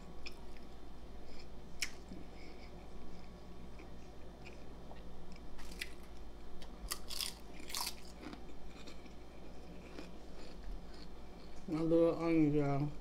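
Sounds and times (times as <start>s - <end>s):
person chewing food: 1.3s - 11.9s.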